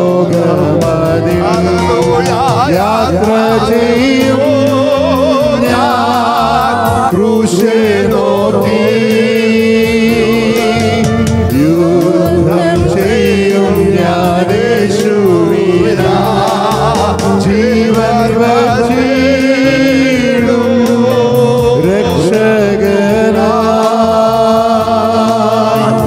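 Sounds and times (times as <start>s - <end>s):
person singing devotional song: 0.0s - 26.0s
sustained accompaniment: 0.0s - 26.0s
ticking beat: 0.2s - 26.0s.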